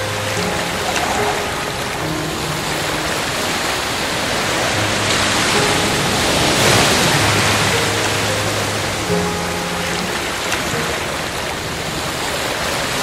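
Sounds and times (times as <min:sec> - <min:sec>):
faint held music notes: 0:00.0 - 0:13.0
sea waves breaking: 0:00.0 - 0:13.0.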